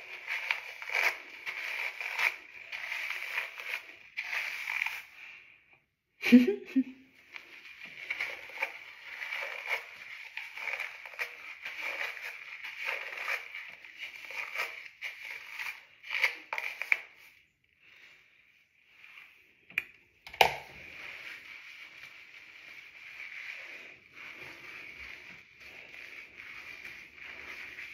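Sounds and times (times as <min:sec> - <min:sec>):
fingers rustling through wet hair: 0:00.0 - 0:05.4, 0:07.2 - 0:18.0, 0:20.6 - 0:27.9.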